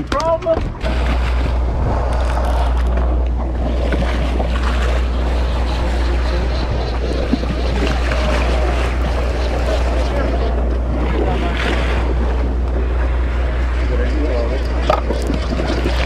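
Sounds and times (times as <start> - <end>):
boat engine droning: 0.0 - 16.0
water washing against hull: 0.0 - 16.0
wind: 0.0 - 16.0.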